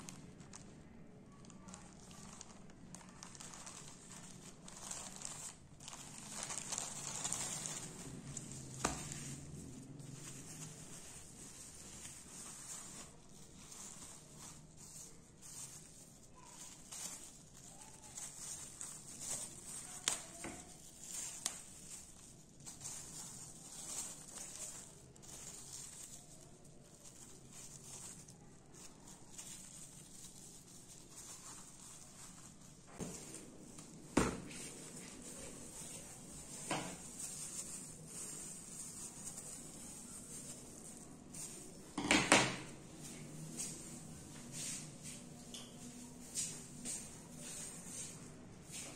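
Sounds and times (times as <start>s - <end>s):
plastic bags crinkling: 0.0s - 48.9s.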